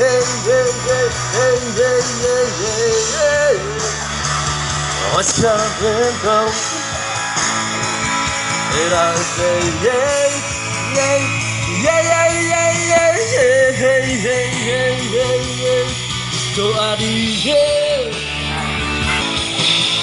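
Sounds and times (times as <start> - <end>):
pop song with guitar: 0.0 - 20.0.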